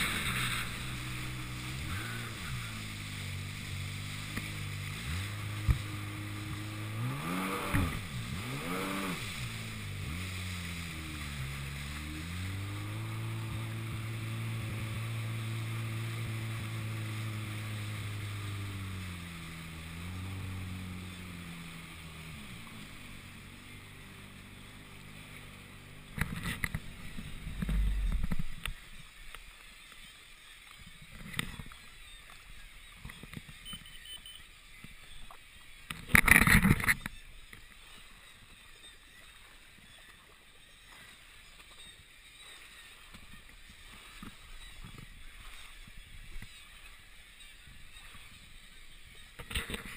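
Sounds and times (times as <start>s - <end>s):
jetski engine revving: 0.0s - 33.8s, 34.4s - 49.9s.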